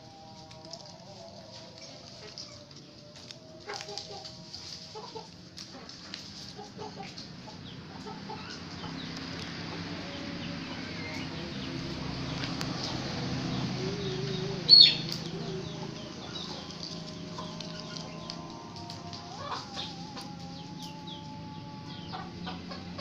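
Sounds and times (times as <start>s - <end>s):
low steady hum: 0.0s - 23.0s
roosters clucking: 0.0s - 23.0s.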